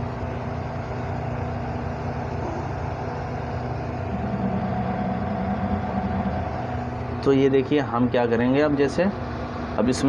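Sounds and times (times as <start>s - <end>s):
machinery droning: 0.0s - 10.0s
strong hum: 0.0s - 10.0s.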